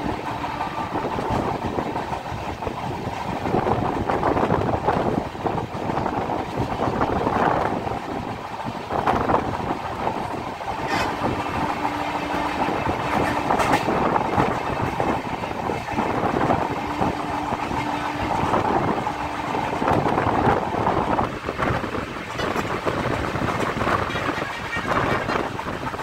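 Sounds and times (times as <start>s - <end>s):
rushing air: 0.0s - 26.0s
train wheels rumbling on rail: 0.0s - 26.0s.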